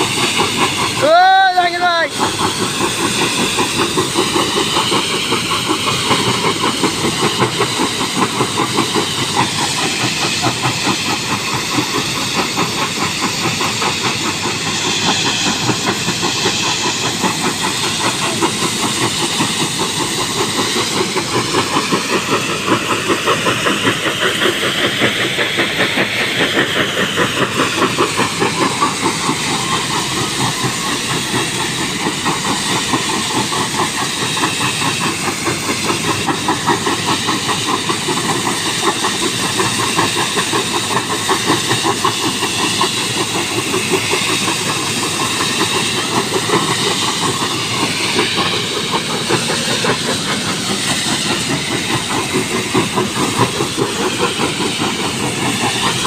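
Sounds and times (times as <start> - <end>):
engine chugging: 0.0 - 56.0.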